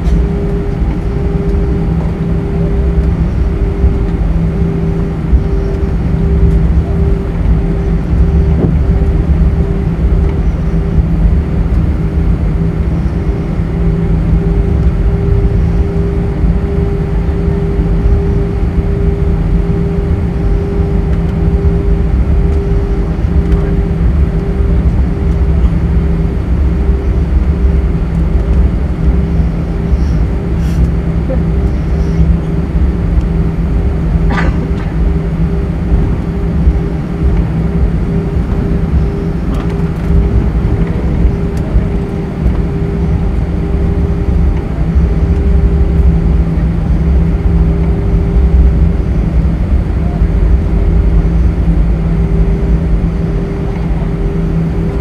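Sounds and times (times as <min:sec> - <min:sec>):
jet engines idling hum: 0:00.0 - 0:55.0
wheels rumbling on pavement: 0:00.0 - 0:55.0.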